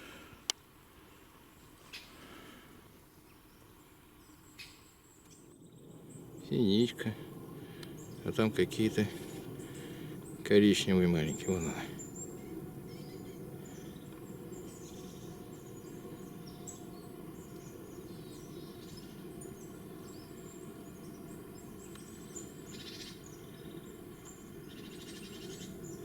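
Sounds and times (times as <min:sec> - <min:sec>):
low steady background hiss: 0:00.0 - 0:26.0
songbirds chirping: 0:00.0 - 0:26.0.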